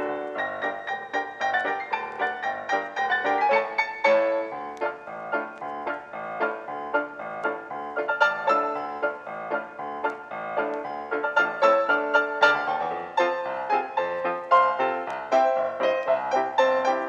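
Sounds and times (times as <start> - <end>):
quick piano-like keyboard notes: 0.0 - 17.0.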